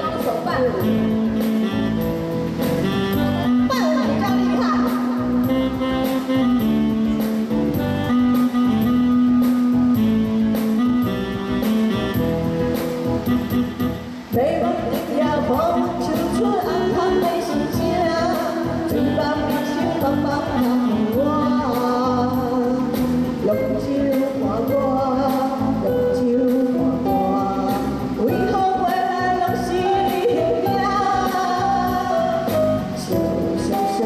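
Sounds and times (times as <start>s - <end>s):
woman singing through microphone: 0.0s - 7.7s, 14.3s - 34.0s
electronic keyboard backing with beat: 0.0s - 34.0s.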